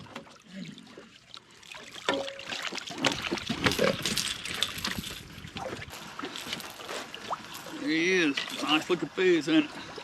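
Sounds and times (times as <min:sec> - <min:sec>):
water splashing and dripping: 0:00.0 - 0:10.0.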